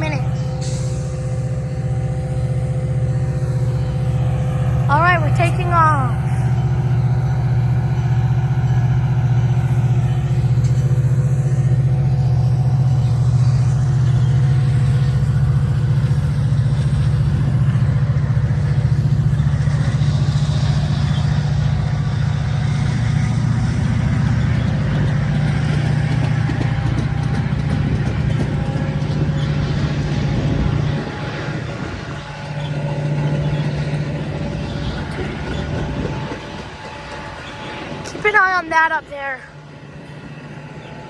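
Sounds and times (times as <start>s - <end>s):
diesel locomotive engine drone: 0.0s - 41.0s
train rolling noise: 0.0s - 41.0s.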